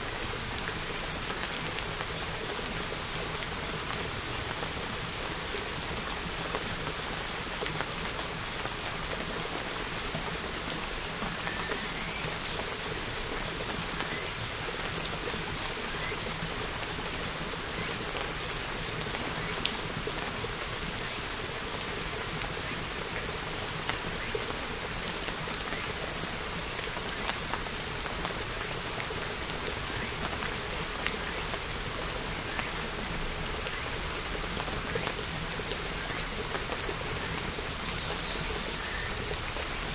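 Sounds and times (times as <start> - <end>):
rain hissing: 0.0 - 39.9
faint raindrop ticks: 0.3 - 39.8.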